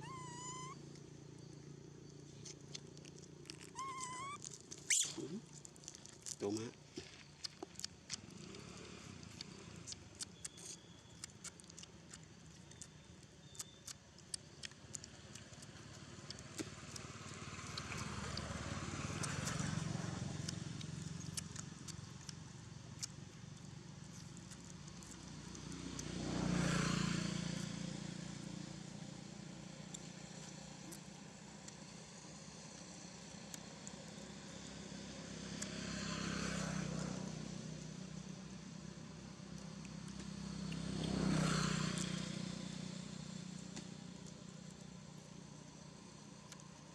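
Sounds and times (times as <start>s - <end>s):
motor vehicles passing: 0.0s - 46.9s.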